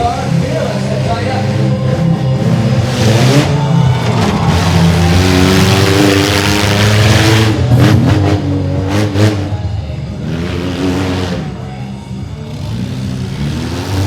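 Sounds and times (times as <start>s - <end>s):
small truck engine revving: 0.0s - 14.0s.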